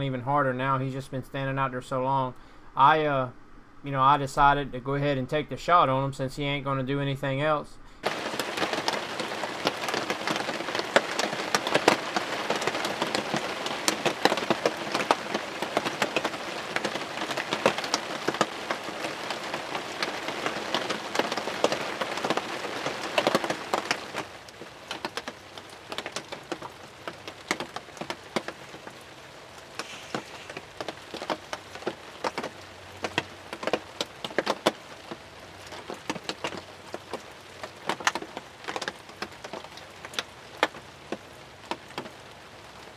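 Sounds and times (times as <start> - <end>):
heavy rain on a blind: 8.0 - 42.9.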